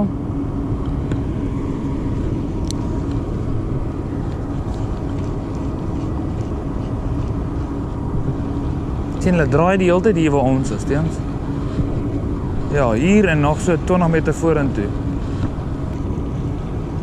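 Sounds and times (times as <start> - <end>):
engine hum: 0.0 - 17.0
low rumble: 0.0 - 17.0.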